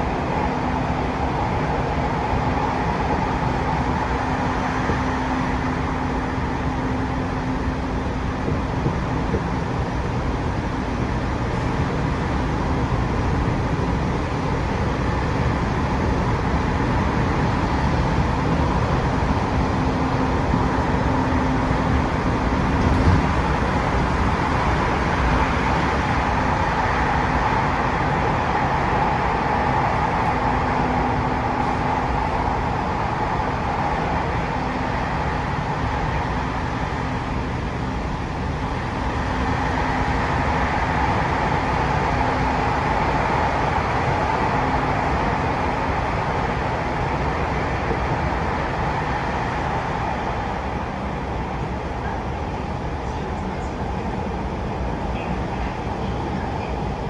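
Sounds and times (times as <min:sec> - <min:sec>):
subway train rumbling in tunnel: 0:00.0 - 0:57.0.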